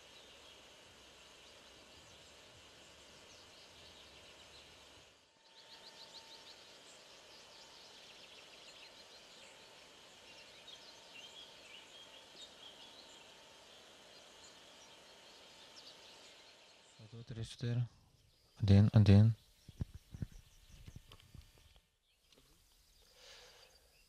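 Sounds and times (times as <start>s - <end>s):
background hiss: 0.0s - 24.0s
birds chirping and trilling: 0.0s - 24.0s.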